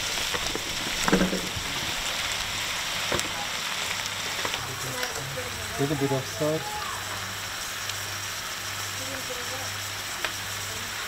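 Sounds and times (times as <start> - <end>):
meat and onions sizzling in a pot: 0.0 - 11.0.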